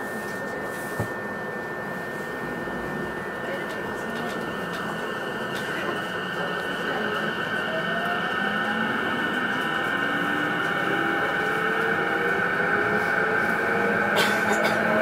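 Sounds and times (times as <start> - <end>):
traction motor whine rising: 1.1 - 14.2
wheels rumbling on rail: 2.0 - 15.0.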